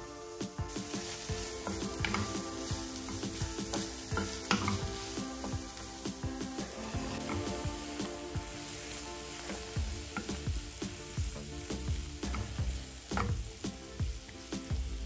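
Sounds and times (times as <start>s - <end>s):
food sizzling in a pan: 0.0s - 15.0s
utensil knocking and scraping pan: 0.8s - 13.5s.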